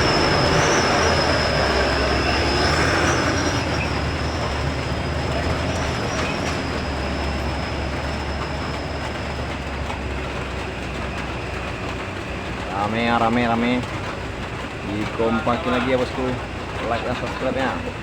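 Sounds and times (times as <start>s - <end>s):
rushing noise: 0.0s - 18.0s
truck engine labouring: 0.0s - 18.0s.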